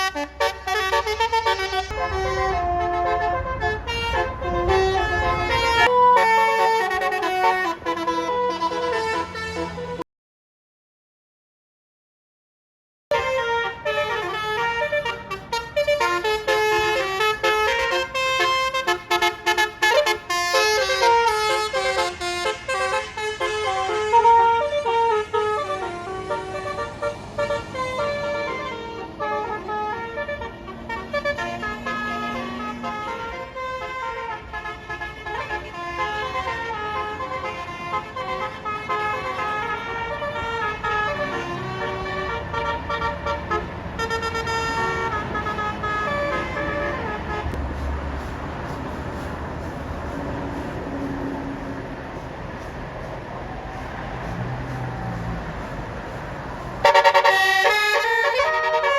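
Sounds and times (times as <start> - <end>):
bus horn playing a tune: 0.0 - 10.0, 13.1 - 58.9.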